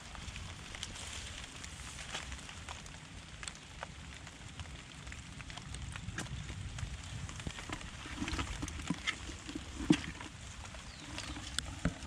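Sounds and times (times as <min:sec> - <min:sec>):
light rain hissing: 0:00.0 - 0:12.0
small clicks and crackles: 0:00.0 - 0:12.0.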